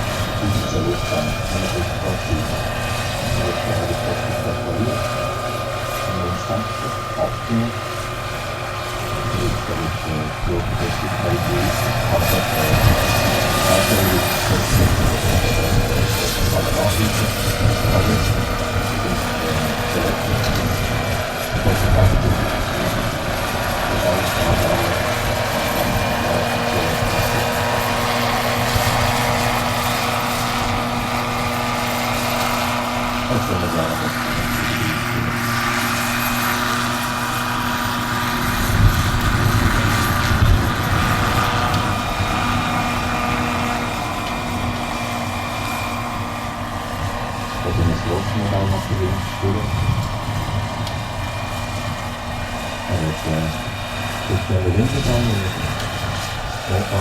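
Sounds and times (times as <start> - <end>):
high turbine whine: 0.0 - 57.0
rotor beating: 0.0 - 57.0.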